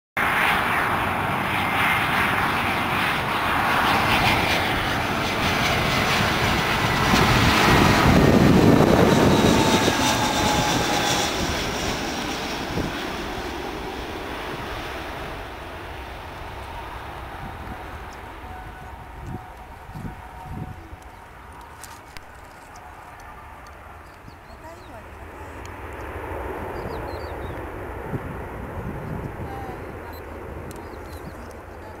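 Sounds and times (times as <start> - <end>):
jet airliner passing overhead: 0.2 - 32.0.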